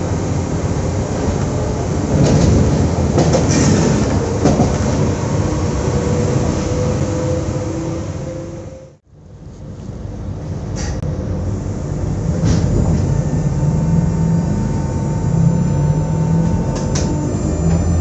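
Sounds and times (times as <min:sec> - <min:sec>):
electric train running with hum: 0:00.0 - 0:18.0.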